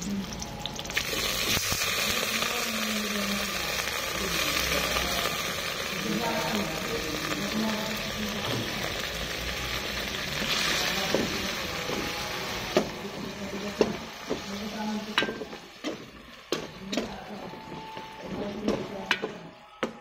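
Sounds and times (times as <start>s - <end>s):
onions sizzling in oil: 0.0s - 19.4s.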